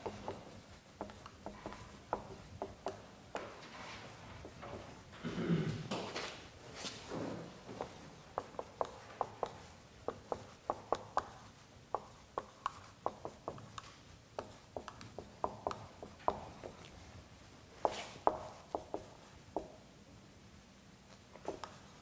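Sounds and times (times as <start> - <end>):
marker writing on whiteboard: 0.0 - 5.2, 7.6 - 19.9, 21.1 - 22.0.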